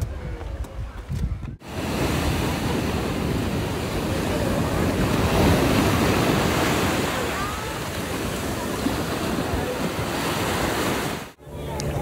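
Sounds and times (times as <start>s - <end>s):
wind buffeting microphone: 0.0s - 11.2s
sea waves breaking: 1.6s - 11.4s.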